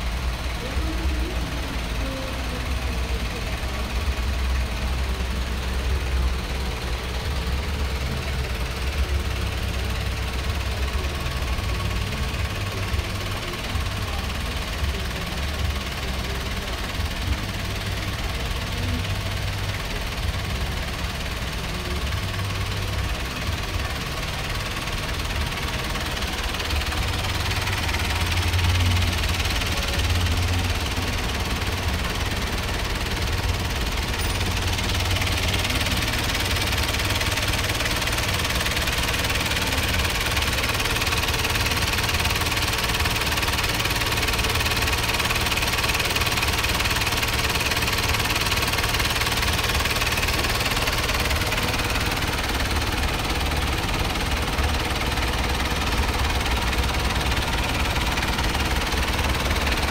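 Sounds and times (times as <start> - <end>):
pickup truck engine idling: 0.0 - 59.9.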